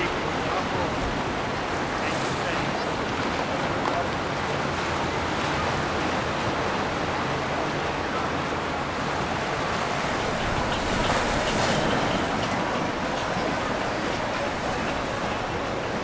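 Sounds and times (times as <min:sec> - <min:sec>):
churned river water rushing: 0:00.0 - 0:16.0.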